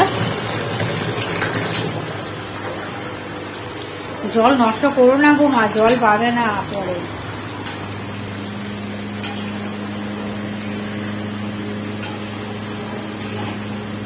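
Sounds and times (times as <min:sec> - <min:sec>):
low electric hum: 0:00.0 - 0:14.0.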